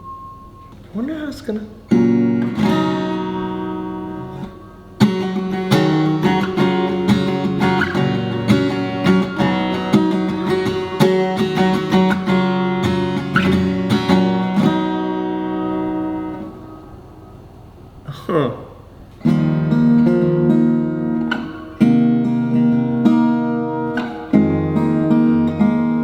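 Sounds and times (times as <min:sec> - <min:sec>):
acoustic guitar strumming and plucking: 0:00.0 - 0:18.0, 0:18.8 - 0:26.0.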